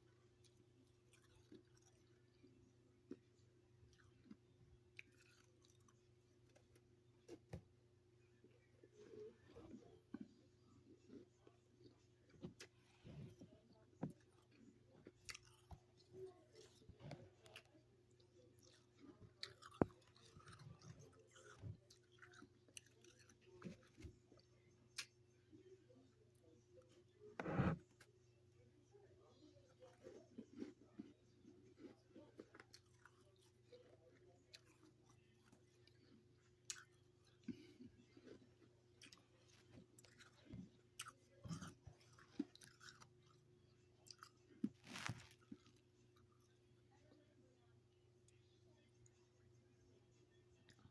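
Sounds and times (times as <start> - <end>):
person chewing frost: 0.0 - 28.1, 29.2 - 47.3.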